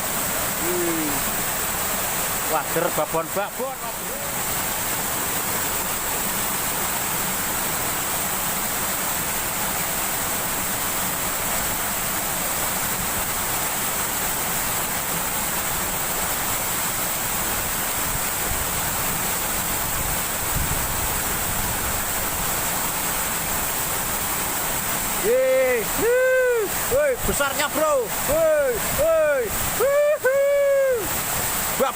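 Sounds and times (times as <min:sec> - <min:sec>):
river water rushing over rocks: 0:00.0 - 0:31.9.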